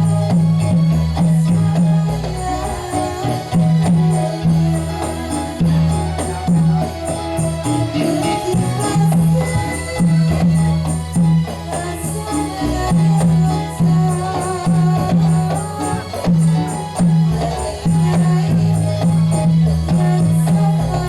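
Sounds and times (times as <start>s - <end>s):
deep steady drum beat: 0.0s - 21.0s
wavering melody: 0.0s - 21.0s.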